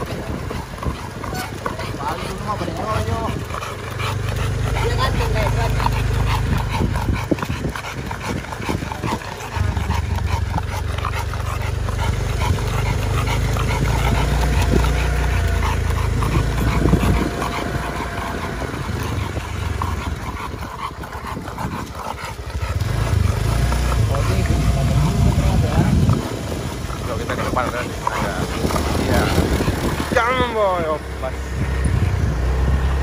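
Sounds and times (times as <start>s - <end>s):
dog panting: 0.0s - 32.3s
steady low rumble: 0.0s - 33.0s.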